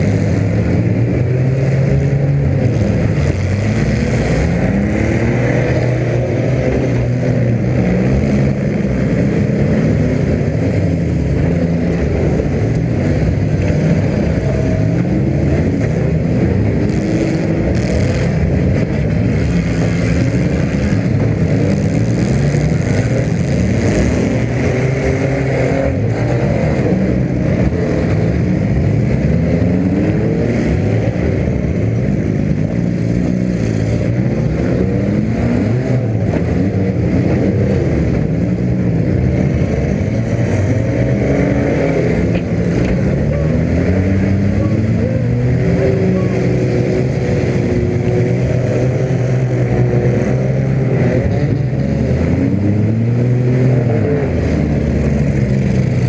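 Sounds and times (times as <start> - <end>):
car engine revving: 0.0 - 56.0
other car engines revving: 0.0 - 56.0.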